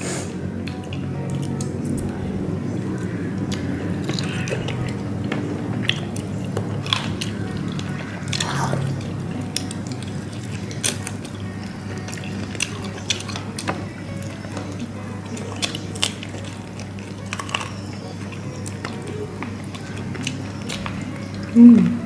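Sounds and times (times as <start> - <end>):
people chewing: 0.0 - 22.0.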